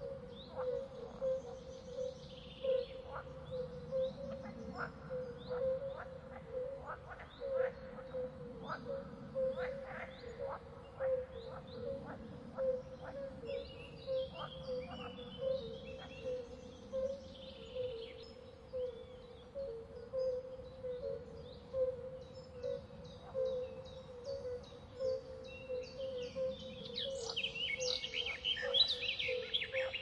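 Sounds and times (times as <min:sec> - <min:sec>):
frogs calling: 0:00.0 - 0:30.0.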